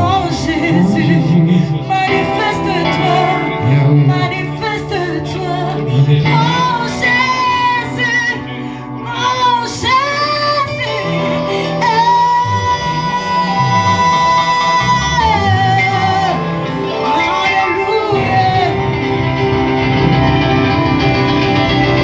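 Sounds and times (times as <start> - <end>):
voices singing worship song: 0.0 - 22.0.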